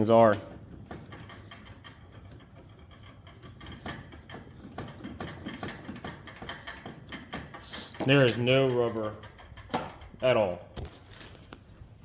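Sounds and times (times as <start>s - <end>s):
suspension clicks and knocks: 0.0s - 11.7s.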